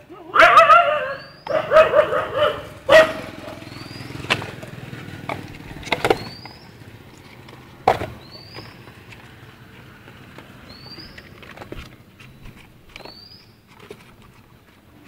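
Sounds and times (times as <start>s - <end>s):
plastic tubs clattering on pavement: 1.5s - 15.0s.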